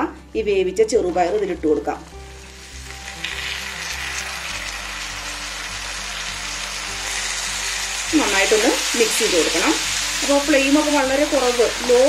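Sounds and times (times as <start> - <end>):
background music with held notes: 0.0 - 12.0
sizzling in frying pan: 1.2 - 12.0.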